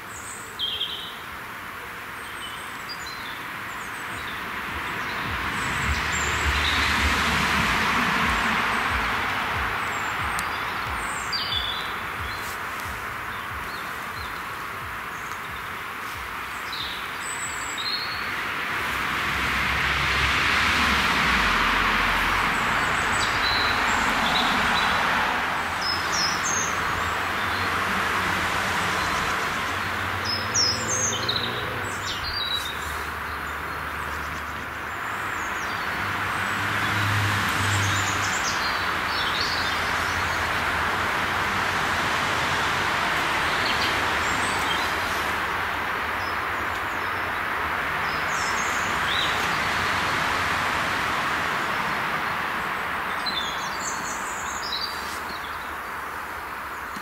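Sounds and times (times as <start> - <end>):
small birds chirping: 0.0 - 19.2, 22.2 - 57.0
steady rushing noise: 3.5 - 56.8.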